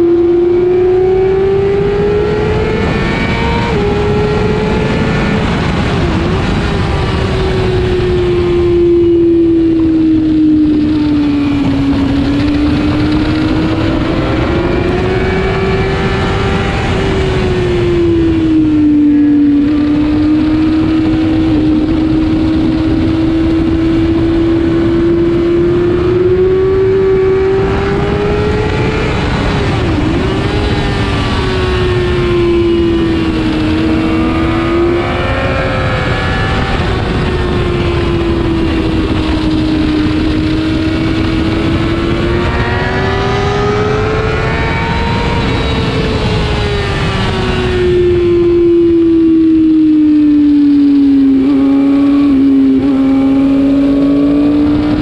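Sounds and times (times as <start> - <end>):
motorcycle engine at high revs: 0.0 - 55.0
other motorcycle engines: 0.0 - 55.0
wind rush on microphone: 0.0 - 55.0.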